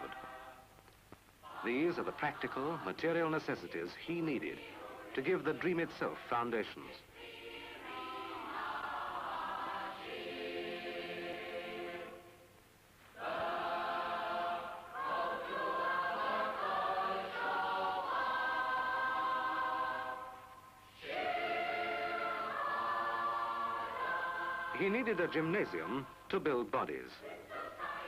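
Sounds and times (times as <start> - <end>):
choir singing held chords: 0.0 - 0.8, 1.4 - 28.0.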